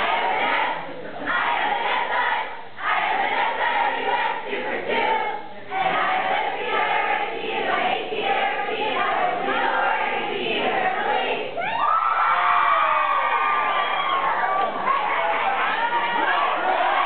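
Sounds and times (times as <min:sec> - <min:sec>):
young voices singing a cheer: 0:00.0 - 0:17.0.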